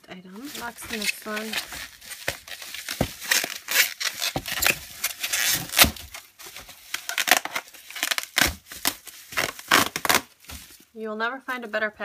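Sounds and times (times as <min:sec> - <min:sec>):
bubble wrap crinkling and crackling: 0:00.3 - 0:11.0.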